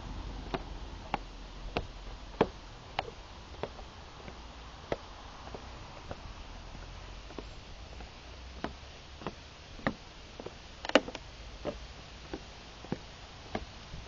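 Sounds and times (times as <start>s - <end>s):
footsteps on wooden planks: 0.0s - 14.0s.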